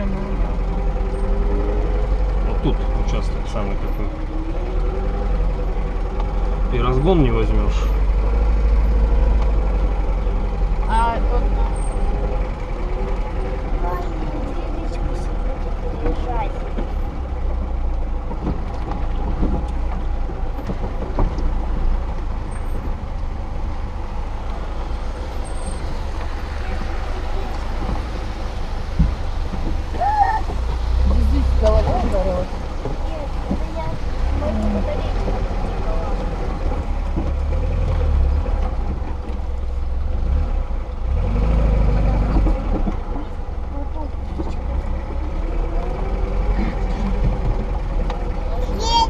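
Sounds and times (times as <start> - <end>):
car engine droning: 0.0 - 49.0.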